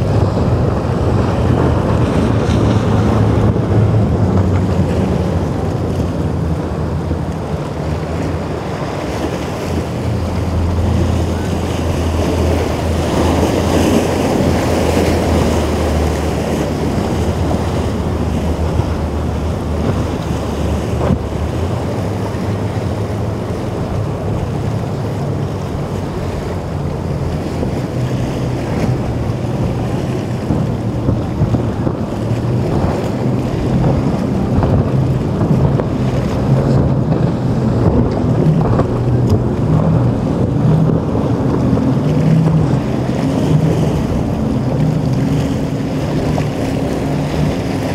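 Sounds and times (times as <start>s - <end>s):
boat engine drone: 0.0s - 47.9s
waves washing: 0.0s - 47.9s
wind buffeting microphone: 0.0s - 47.9s.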